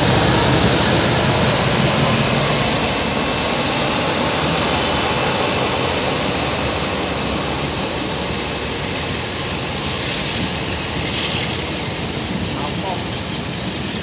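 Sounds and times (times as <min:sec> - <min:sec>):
diesel locomotive engine working hard: 0:00.0 - 0:14.0
passenger coaches rolling on rails: 0:00.0 - 0:14.0.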